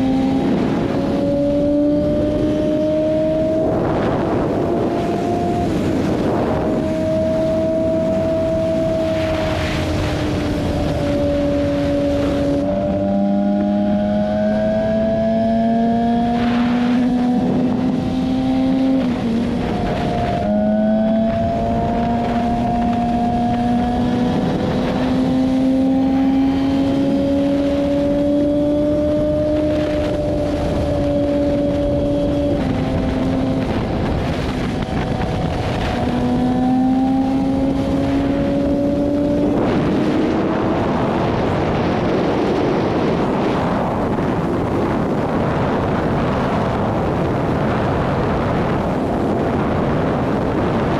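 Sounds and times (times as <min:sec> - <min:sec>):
motorcycle engine running: 0:00.0 - 0:50.9
wind rushing over microphone: 0:00.0 - 0:50.9.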